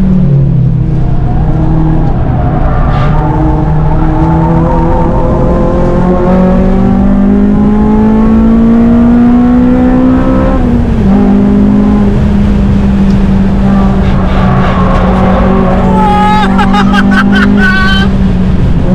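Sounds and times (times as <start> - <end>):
car engine running hard: 0.0 - 18.9.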